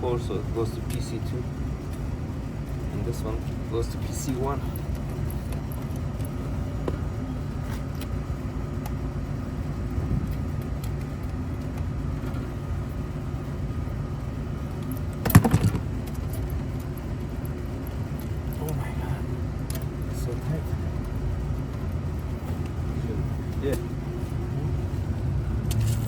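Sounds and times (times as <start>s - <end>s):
low background rumble: 0.0s - 26.0s.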